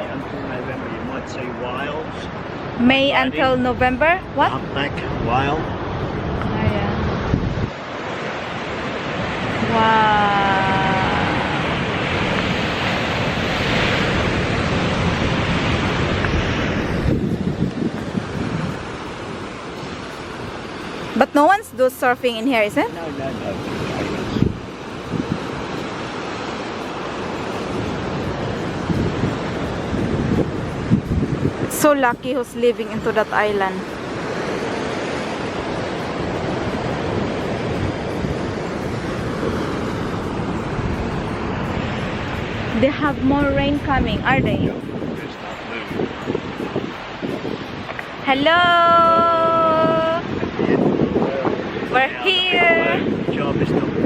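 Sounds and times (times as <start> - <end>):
surf washing in: 0.0 - 54.0
wind buffeting microphone: 0.0 - 54.0
wind rushing: 0.0 - 54.0.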